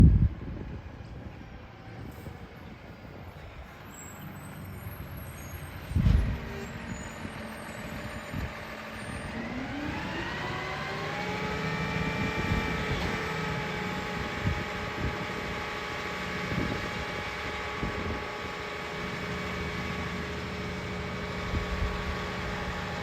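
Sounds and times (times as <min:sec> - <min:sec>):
garbage truck engine revving: 0:04.0 - 0:23.0.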